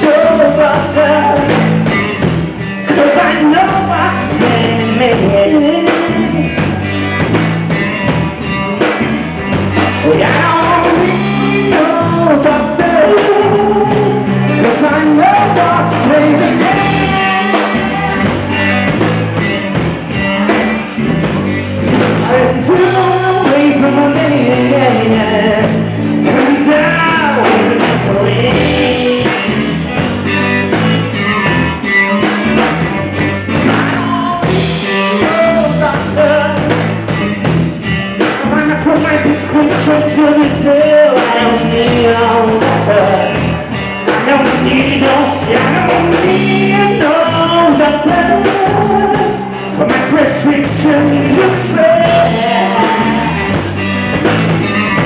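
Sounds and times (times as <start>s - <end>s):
drum kit with cymbals: 0.0s - 55.0s
electric bass: 0.0s - 55.0s
electric guitars: 0.0s - 55.0s.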